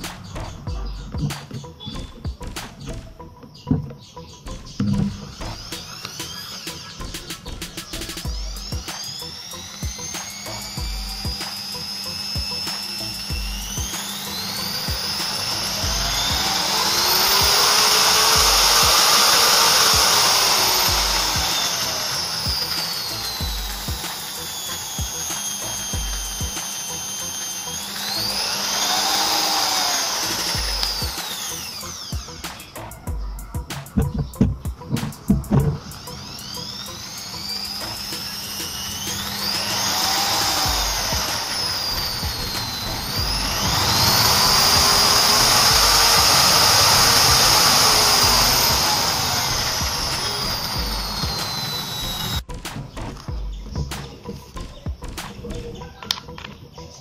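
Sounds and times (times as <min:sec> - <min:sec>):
electric drill motor whine: 0:00.0 - 0:52.5.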